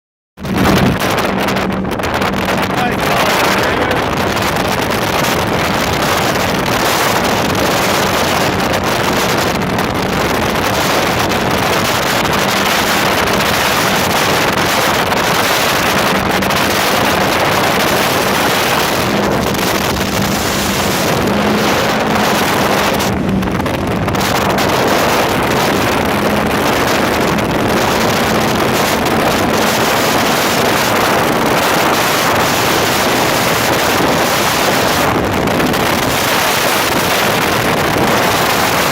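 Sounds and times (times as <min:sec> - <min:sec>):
speedboat engine drone: 0:00.4 - 0:38.9
wind noise on microphone: 0:00.4 - 0:38.9.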